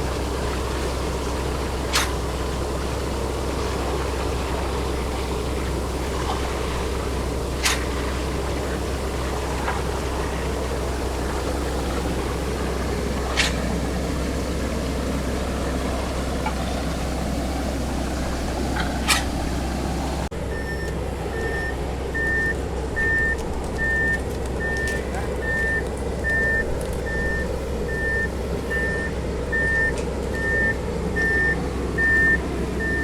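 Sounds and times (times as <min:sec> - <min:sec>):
heavy truck engines running: 0:00.0 - 0:33.0
truck reversing beeper: 0:00.0 - 0:33.0.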